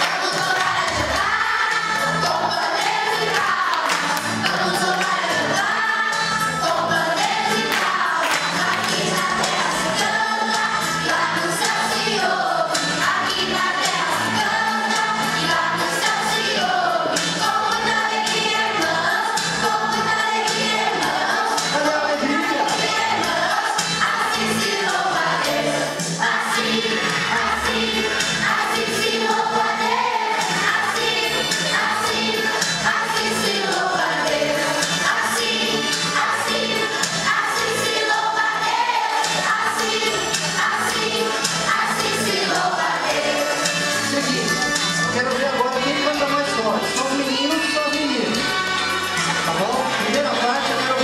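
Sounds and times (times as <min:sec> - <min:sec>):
gospel group singing: 0:00.0 - 0:46.2
backing track with steady beat: 0:00.0 - 0:51.0.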